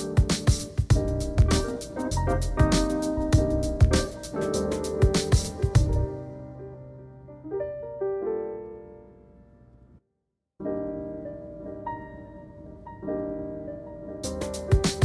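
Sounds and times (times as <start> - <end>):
slow piano music: 0.0 - 10.0, 10.6 - 15.0.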